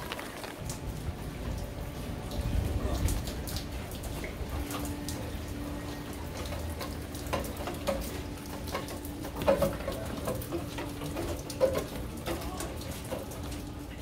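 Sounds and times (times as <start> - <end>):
rain falling and dripping: 0.0 - 14.0
water splashes: 0.0 - 14.0.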